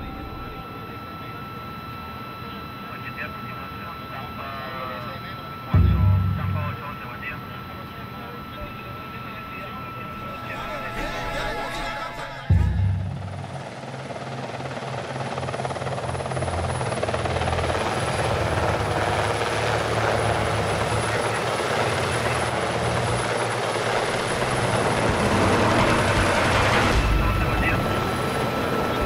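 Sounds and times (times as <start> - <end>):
helicopter rotor and turbine: 0.0 - 29.0.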